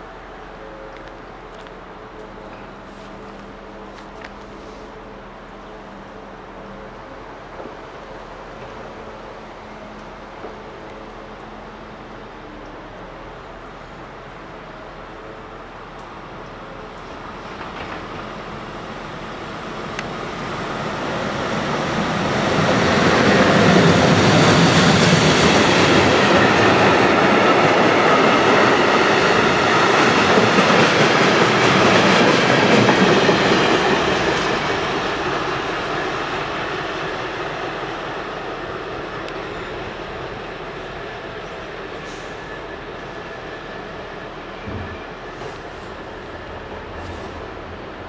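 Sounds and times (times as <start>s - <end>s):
freight train passing: 0.0s - 48.0s.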